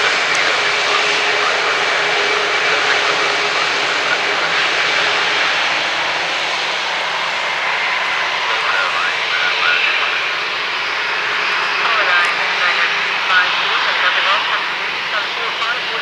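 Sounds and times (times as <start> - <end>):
faint jet engine whine: 0.0 - 16.0
jet engines roaring: 0.0 - 16.0.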